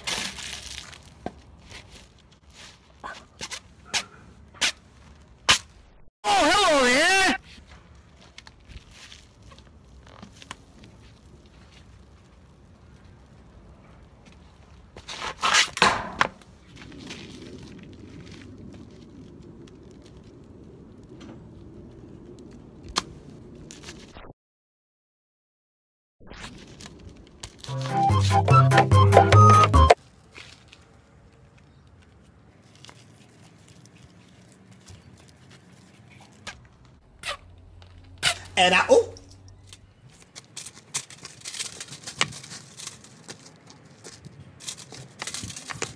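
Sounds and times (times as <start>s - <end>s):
cling wrap crinkling underfoot: 0.0s - 5.8s, 6.6s - 15.8s, 16.4s - 24.2s, 26.4s - 28.5s, 30.0s - 38.2s, 39.5s - 45.9s.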